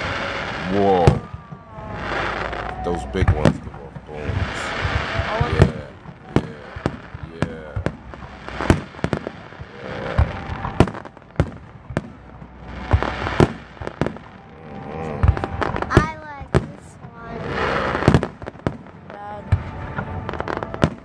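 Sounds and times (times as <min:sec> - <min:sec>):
fireworks bursting bangs: 0:00.0 - 0:21.0.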